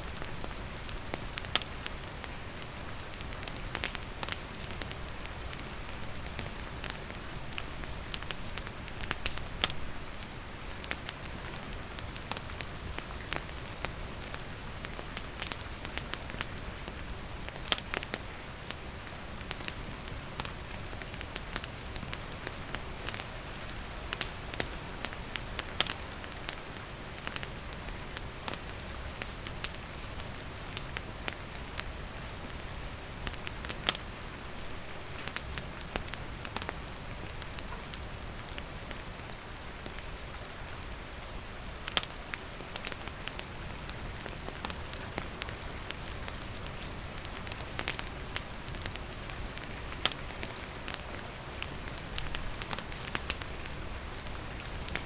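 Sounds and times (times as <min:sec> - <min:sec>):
steady rain falling: 0:00.0 - 0:55.0
campfire crackling and popping: 0:00.1 - 0:41.0, 0:41.8 - 0:55.0.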